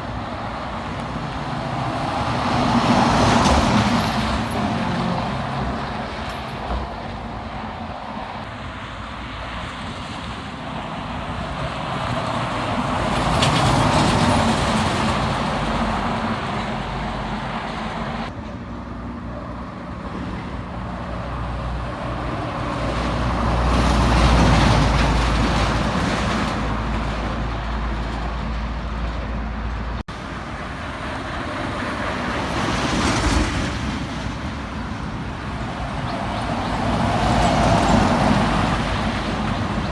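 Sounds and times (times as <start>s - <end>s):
heavy trucks passing on highway: 0.0s - 39.9s.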